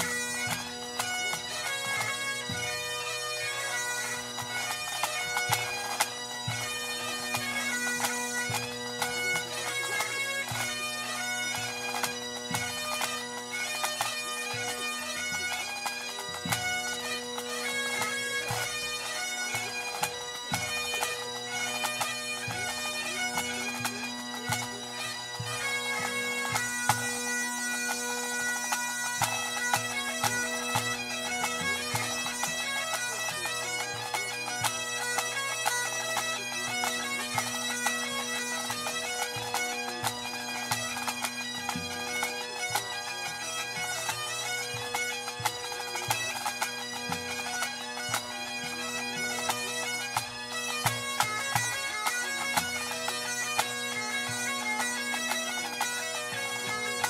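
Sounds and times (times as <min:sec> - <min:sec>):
bagpipes playing melody: 0:00.0 - 0:57.0.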